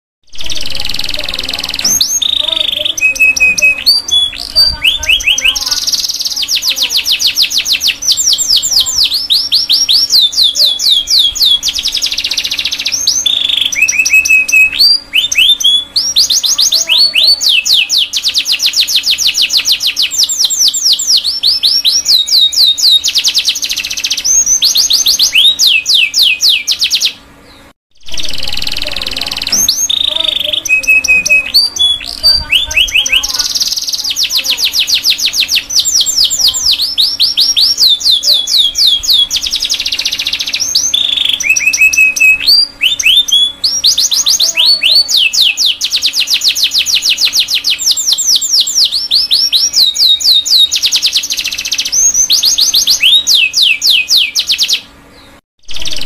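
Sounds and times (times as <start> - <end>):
canary singing trills: 0.2 - 56.0.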